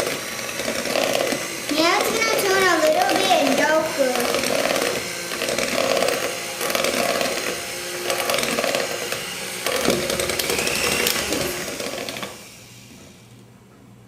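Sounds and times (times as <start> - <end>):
electric mixer motor running: 0.0 - 13.4.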